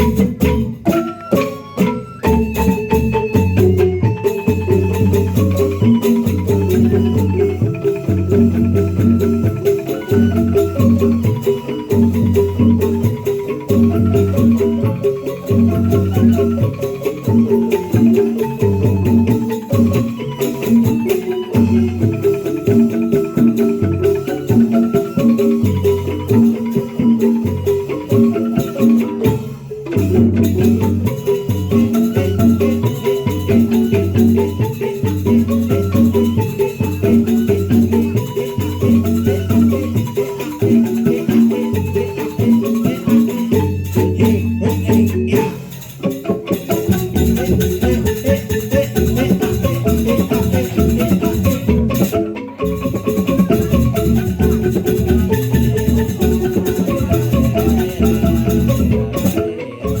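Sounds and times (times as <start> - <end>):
rattling shaker percussion: 0.0 - 60.0
tuned mallet percussion music: 0.0 - 60.0.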